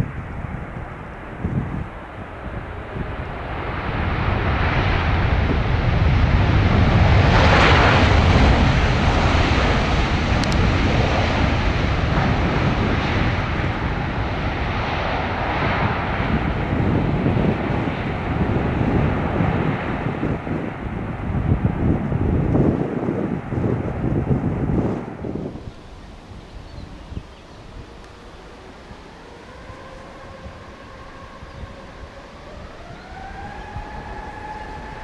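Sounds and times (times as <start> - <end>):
deep rumble: 0.0 - 35.0
jet engines passing close: 0.0 - 35.0.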